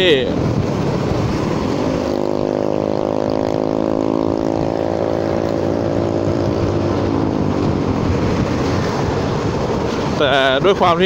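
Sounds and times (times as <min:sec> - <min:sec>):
motorcycle engine at high revs: 0:00.0 - 0:11.0
tyre noise on wet road: 0:00.0 - 0:11.0
wind: 0:00.0 - 0:11.0.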